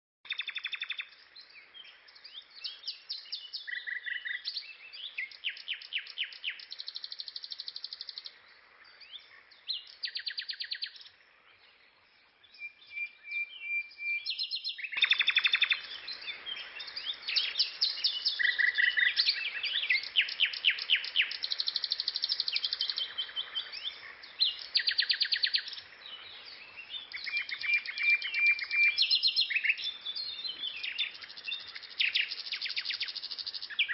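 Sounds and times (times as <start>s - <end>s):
background hiss: 0.3s - 33.9s
songbirds chirping and trilling: 0.3s - 33.9s.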